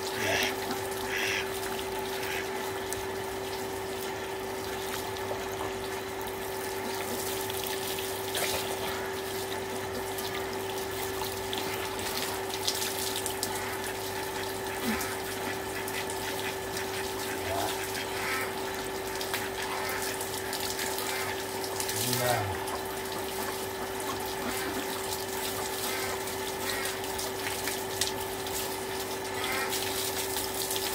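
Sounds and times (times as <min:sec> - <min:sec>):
steady hum: 0:00.0 - 0:30.9
water gushing from a hose: 0:00.0 - 0:30.9
water splashing onto ground: 0:00.2 - 0:30.9.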